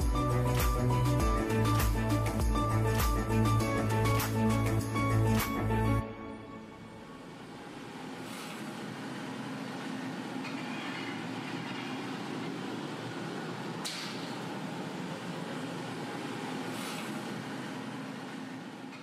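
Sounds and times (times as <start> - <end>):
furnace roaring: 0.0 - 19.0.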